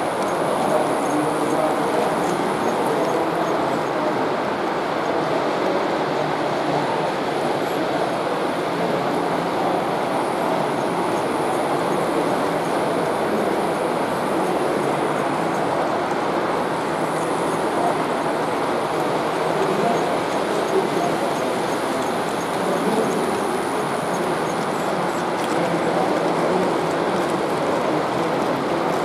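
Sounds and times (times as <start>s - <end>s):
model train wheels and motor rumbling: 0.0s - 29.0s.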